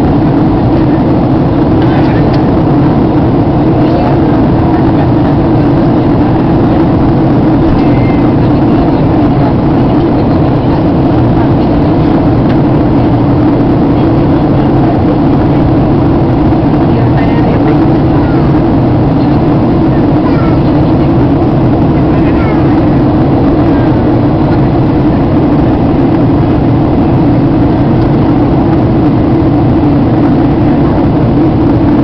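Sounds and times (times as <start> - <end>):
airliner cabin drone: 0.0 - 32.0.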